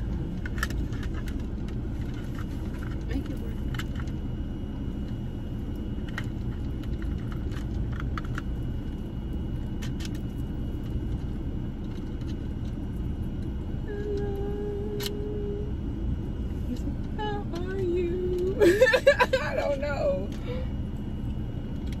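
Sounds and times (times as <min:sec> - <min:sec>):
air conditioning running: 0:00.0 - 0:22.0
vehicle engine rumble: 0:00.0 - 0:22.0.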